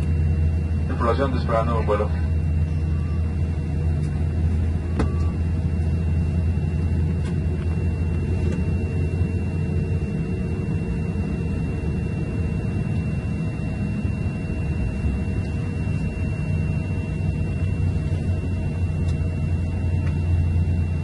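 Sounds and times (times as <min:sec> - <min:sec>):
airliner cabin engine rumble: 0:00.0 - 0:21.0
thin steady whine: 0:00.0 - 0:21.0.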